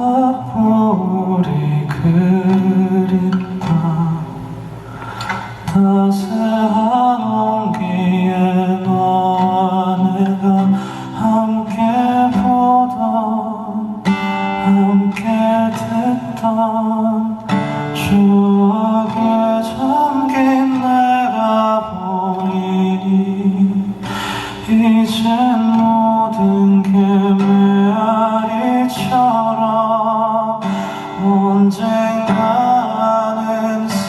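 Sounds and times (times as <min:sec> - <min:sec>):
man singing: 0:00.0 - 0:04.6, 0:05.2 - 0:34.0
acoustic guitar: 0:00.0 - 0:34.0.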